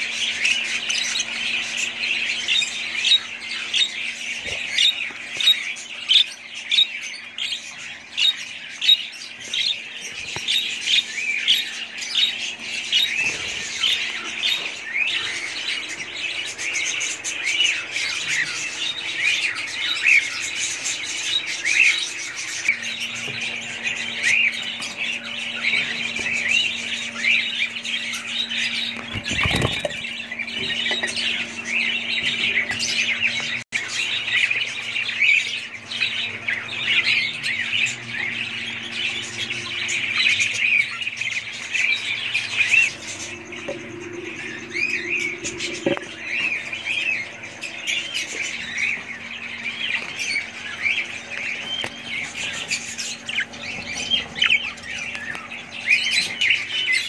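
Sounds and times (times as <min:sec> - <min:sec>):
parrots chattering and squawking: 0:00.0 - 0:57.0.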